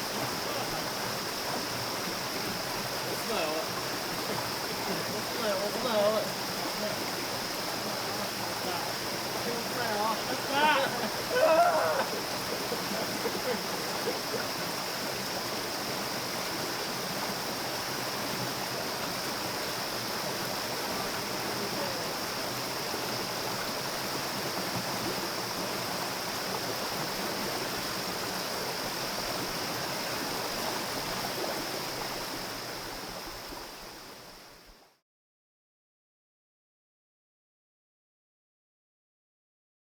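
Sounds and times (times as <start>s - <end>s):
river water rushing: 0.0s - 34.6s.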